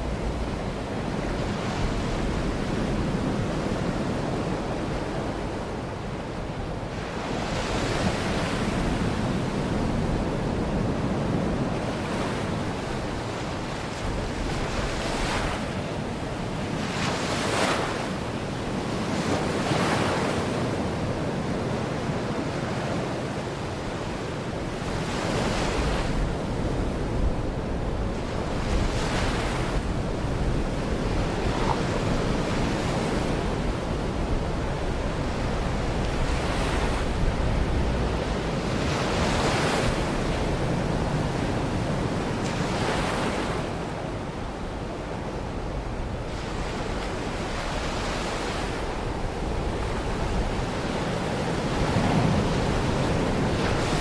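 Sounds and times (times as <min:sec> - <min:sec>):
waves washing onto shore: 0:00.0 - 0:54.0
wind rumble on microphone: 0:00.0 - 0:54.0.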